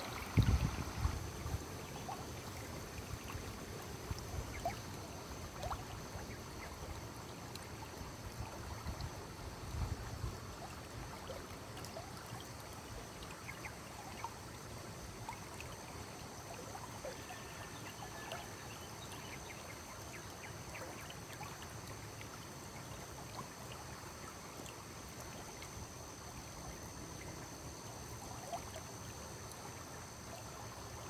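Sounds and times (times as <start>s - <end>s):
stream water trickling: 0.0s - 31.0s.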